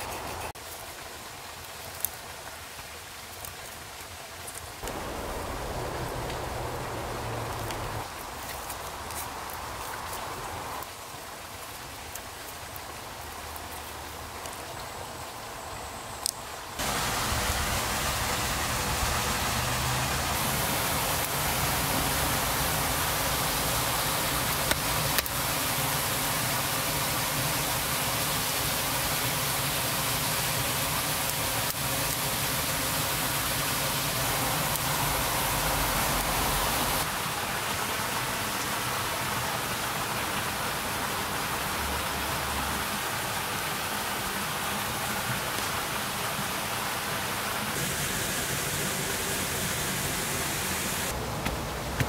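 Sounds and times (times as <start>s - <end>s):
rushing water: 0.0s - 52.0s.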